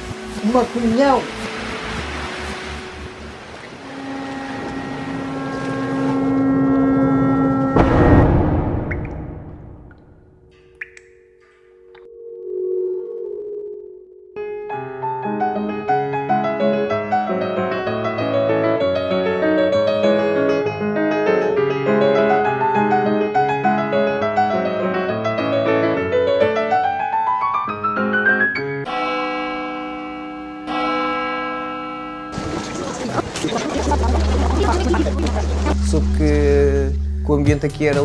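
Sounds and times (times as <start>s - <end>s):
piano music: 1.4s - 35.8s.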